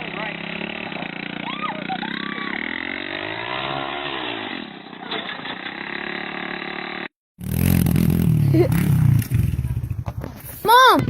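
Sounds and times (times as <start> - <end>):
minibike engine running: 0.0 - 11.0.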